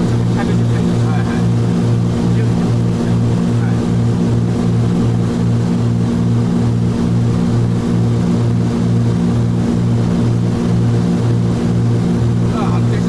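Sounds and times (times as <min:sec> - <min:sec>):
aircraft engines droning in cabin: 0:00.0 - 0:13.0.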